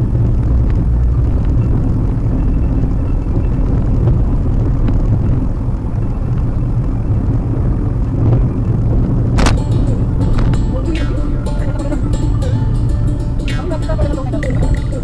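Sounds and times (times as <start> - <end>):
car cabin road and engine rumble: 0.0 - 15.0.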